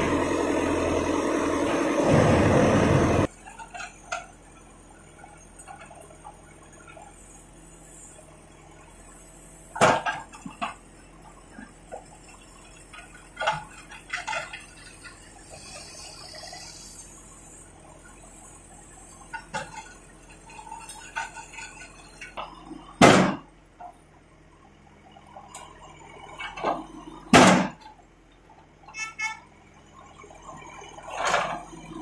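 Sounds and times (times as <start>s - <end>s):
backhoe engine running: 0.0s - 32.0s.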